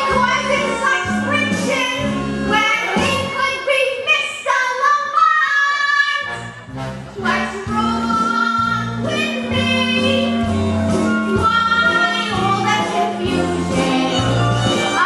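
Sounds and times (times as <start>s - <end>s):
instrumental accompaniment with bass: 0.0s - 3.6s, 6.2s - 15.0s
woman singing: 0.0s - 6.3s, 7.2s - 15.0s.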